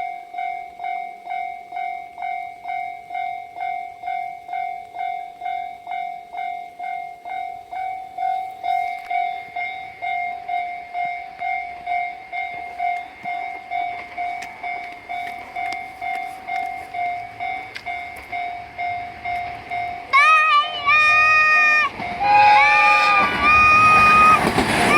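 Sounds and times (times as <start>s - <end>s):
level-crossing warning bell ringing: 0.0s - 24.9s.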